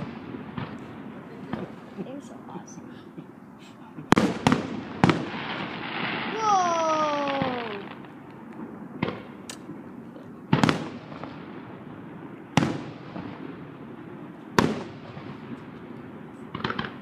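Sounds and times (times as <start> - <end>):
small firework crack: 0.0 - 2.3, 4.1 - 17.0
fireworks booming: 0.0 - 17.0.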